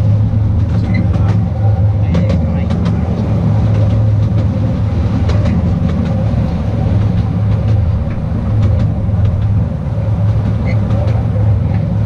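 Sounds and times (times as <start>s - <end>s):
train rumbling: 0.0s - 12.0s
wheels clicking on rails: 0.0s - 12.0s.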